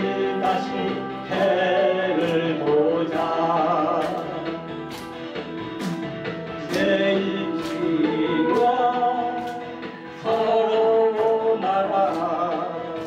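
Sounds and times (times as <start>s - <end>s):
man singing into microphone: 0.0s - 4.6s, 6.6s - 13.0s
karaoke backing track with beat: 0.0s - 13.0s.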